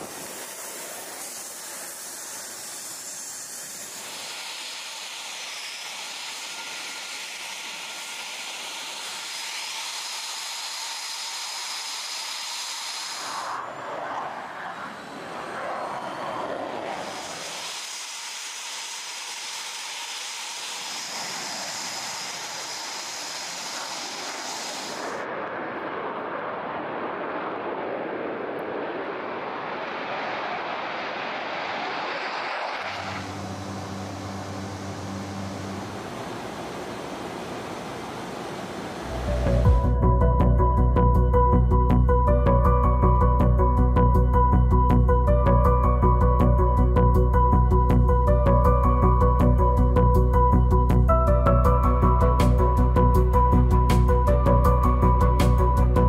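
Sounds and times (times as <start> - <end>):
jet engine whine and hiss: 0.0 - 56.0.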